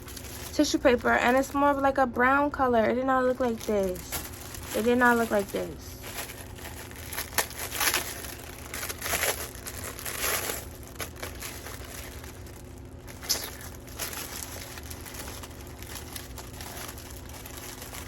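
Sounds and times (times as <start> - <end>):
tissue paper crinkling: 0.0 - 2.0, 3.1 - 18.0.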